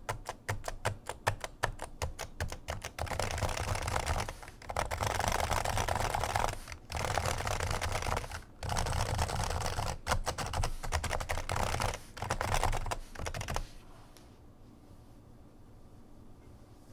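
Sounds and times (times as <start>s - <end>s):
fast typing on keyboard: 0.0s - 13.8s.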